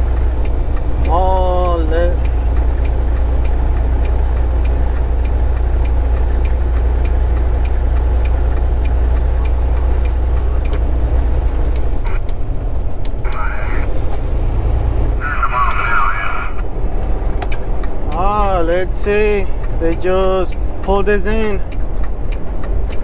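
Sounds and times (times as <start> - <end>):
light regular ticking: 0.0 - 23.0
truck engine and road drone: 0.0 - 23.0
sharp clicks: 2.1 - 14.3, 15.6 - 23.0.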